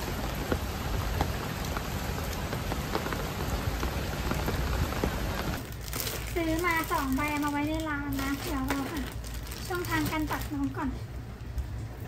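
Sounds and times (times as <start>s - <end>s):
raindrops ticking: 0.0s - 10.8s
steady rain falling: 0.0s - 12.0s.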